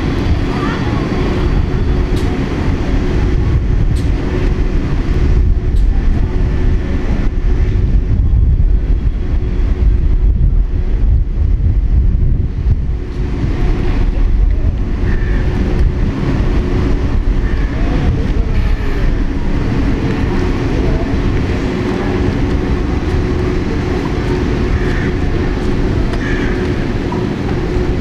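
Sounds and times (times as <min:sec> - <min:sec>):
low rumble: 0:00.0 - 0:28.0
street noise: 0:00.0 - 0:28.0
trolleybus electrical hum: 0:00.0 - 0:28.0.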